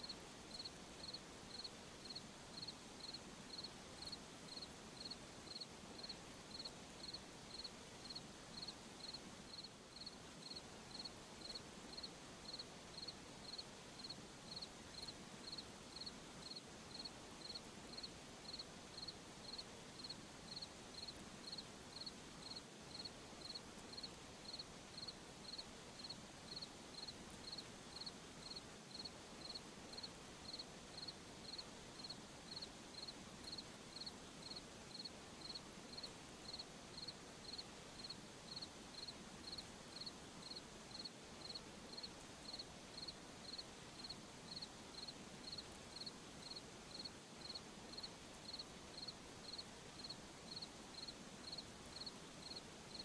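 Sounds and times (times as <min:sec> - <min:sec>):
cricket chirping: 0:00.0 - 0:53.0
faint night background hiss: 0:00.0 - 0:53.0.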